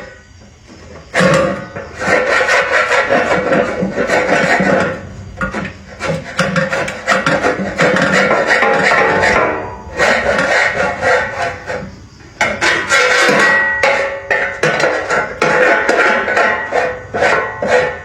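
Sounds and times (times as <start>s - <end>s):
rough scraping and rasping: 0.0s - 18.0s.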